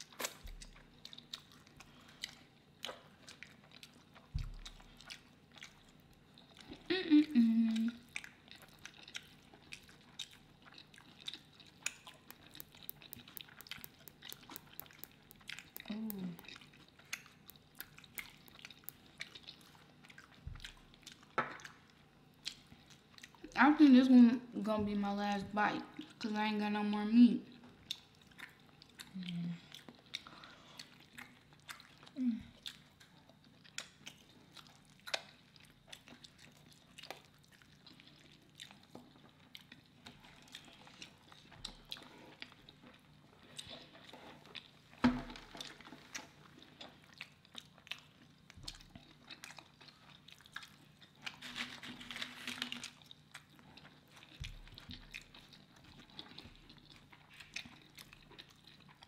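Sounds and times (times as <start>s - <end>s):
chewing and biting food: 0.0s - 23.6s, 27.5s - 59.0s.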